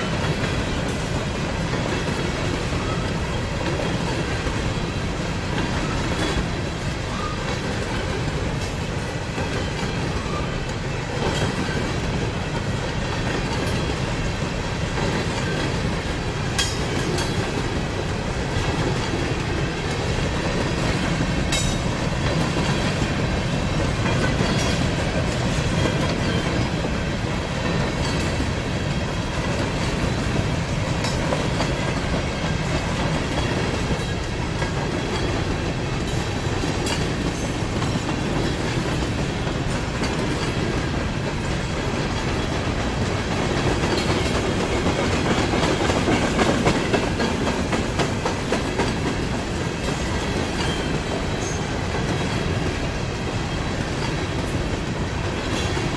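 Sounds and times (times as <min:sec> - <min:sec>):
steel wheels rumbling on rail: 0:00.0 - 0:55.9
wheels clacking over rail joints: 0:00.0 - 0:55.9.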